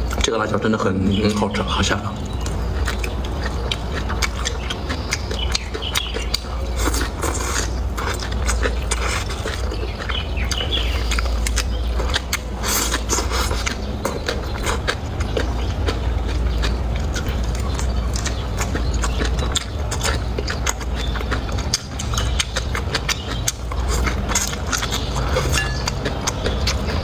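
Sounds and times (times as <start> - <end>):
low steady hum: 0.0 - 27.0
person chewing and crunching food: 0.0 - 27.0.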